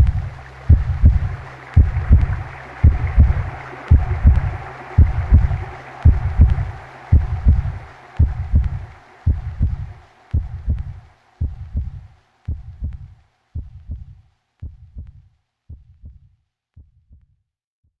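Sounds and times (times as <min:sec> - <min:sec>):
faint whooshing hiss: 0:00.0 - 0:15.1
heartbeat thumps: 0:00.0 - 0:17.3.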